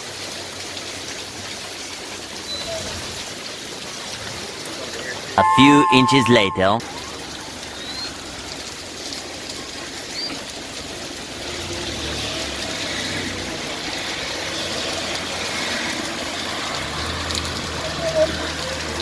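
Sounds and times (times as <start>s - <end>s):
water running and splashing: 0.0s - 5.4s, 6.8s - 19.0s
heavy rain falling: 0.0s - 5.5s, 6.8s - 19.0s.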